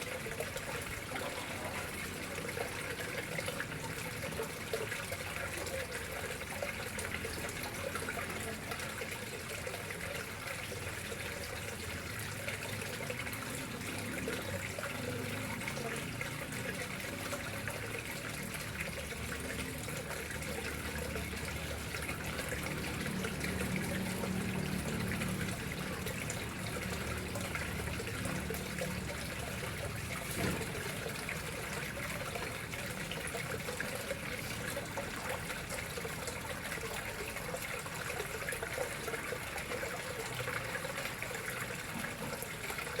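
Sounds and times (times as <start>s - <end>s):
water trickling into a pond: 0.0s - 43.0s.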